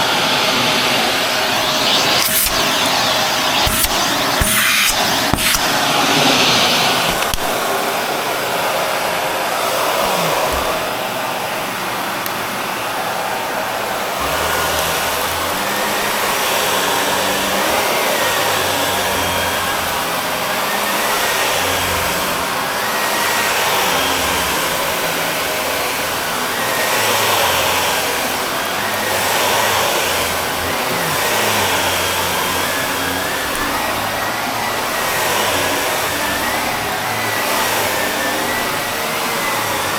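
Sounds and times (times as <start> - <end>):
vacuum cleaner suction: 0.0 - 39.9.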